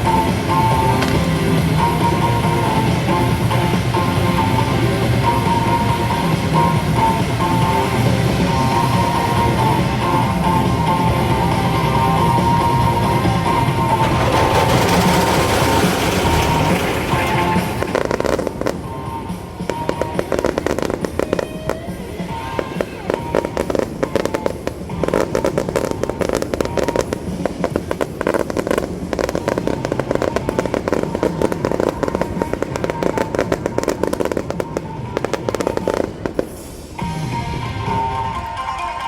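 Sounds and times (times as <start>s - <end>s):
background music: 0.0s - 39.0s
fireworks crackling: 0.0s - 39.0s.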